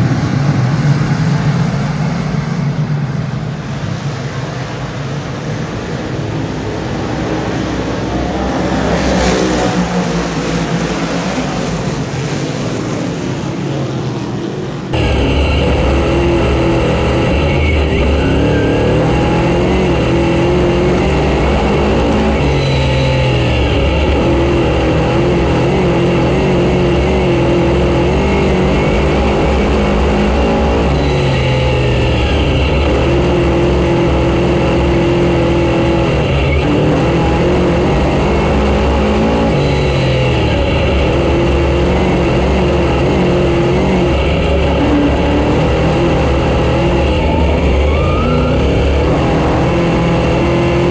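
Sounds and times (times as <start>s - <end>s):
race car engine running hard: 0.0s - 50.9s.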